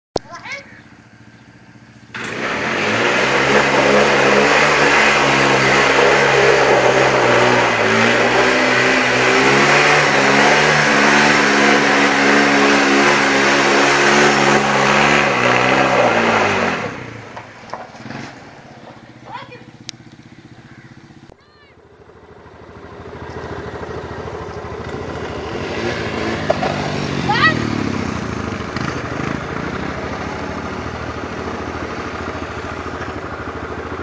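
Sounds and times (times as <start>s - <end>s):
quad bike engine revving: 0.2s - 34.0s.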